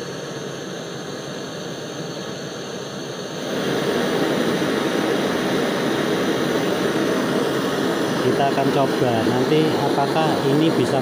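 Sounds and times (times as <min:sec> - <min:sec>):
gas torch roaring: 0:00.0 - 0:11.0.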